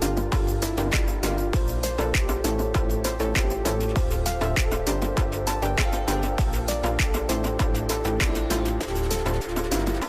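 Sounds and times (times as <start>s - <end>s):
background music with steady beat: 0.0s - 10.0s
deep bass thump: 0.2s - 8.6s.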